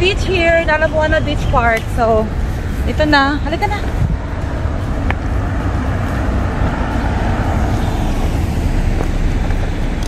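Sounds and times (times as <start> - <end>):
road traffic passing: 0.0 - 10.0
wind rumbling on microphone: 0.0 - 10.0.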